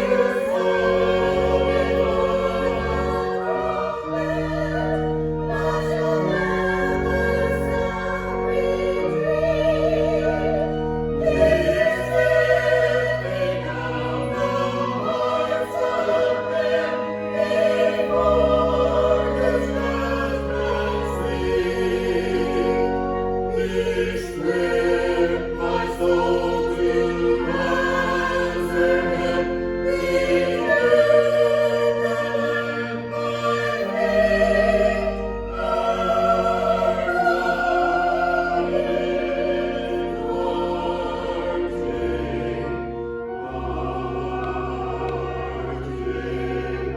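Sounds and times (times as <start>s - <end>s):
choir singing: 0.0s - 46.9s
sustained instrumental chords: 0.0s - 46.9s.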